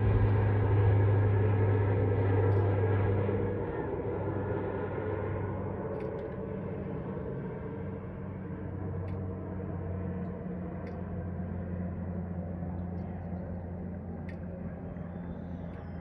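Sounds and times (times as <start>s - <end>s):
turboprop plane droning overhead: 0.0s - 16.0s.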